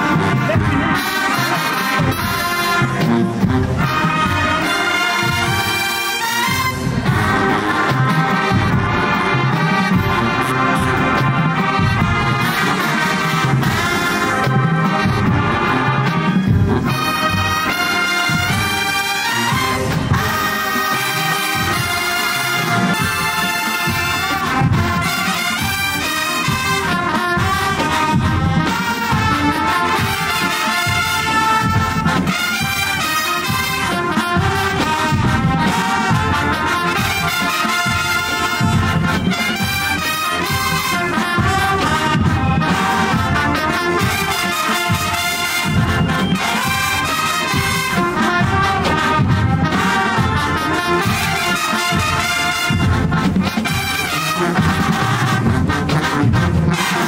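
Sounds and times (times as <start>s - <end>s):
brass playing tune: 0.0s - 57.0s
steady drum beat: 0.0s - 57.0s.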